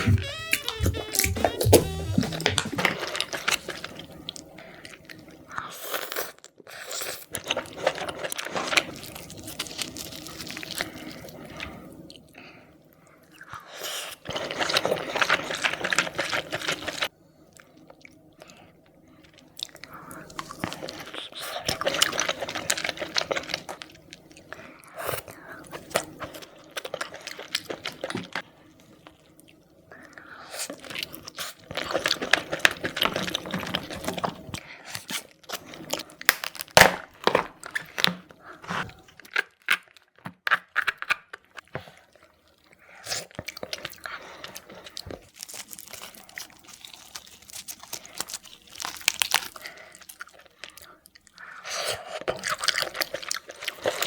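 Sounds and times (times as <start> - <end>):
seafood crunching and chewing: 0.0 - 54.0.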